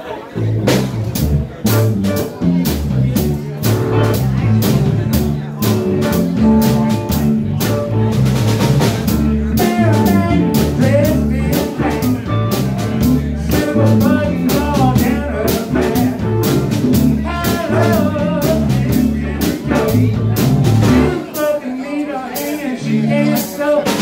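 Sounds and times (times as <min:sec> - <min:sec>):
blues band playing: 0:00.0 - 0:24.0.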